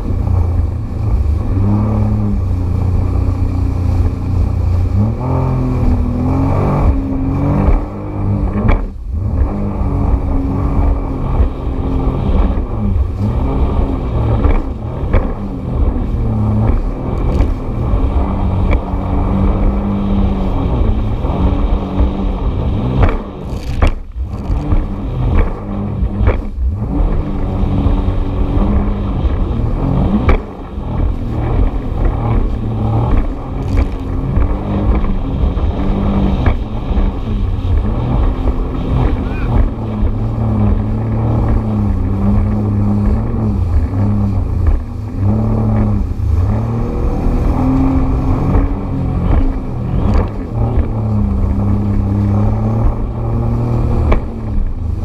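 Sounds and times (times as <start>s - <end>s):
jet ski engine: 0.0s - 55.0s
rushing water: 0.0s - 55.0s
wind: 0.0s - 55.0s.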